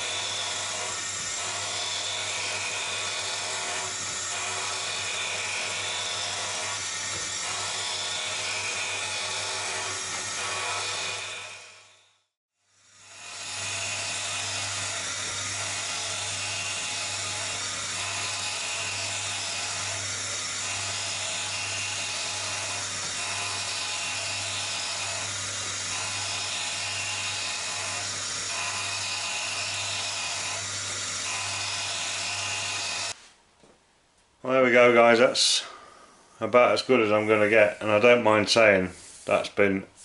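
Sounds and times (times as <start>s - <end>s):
surface grinder whining: 0.0s - 33.2s.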